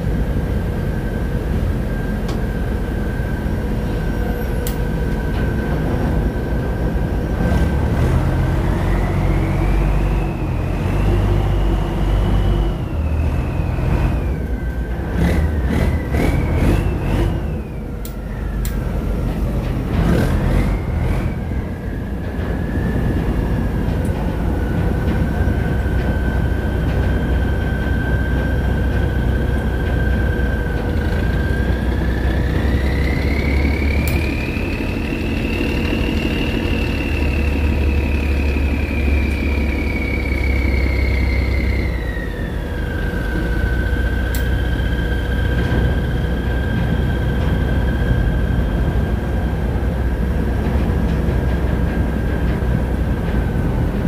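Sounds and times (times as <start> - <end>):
boat engine rumbling and whining: 0.0 - 54.0.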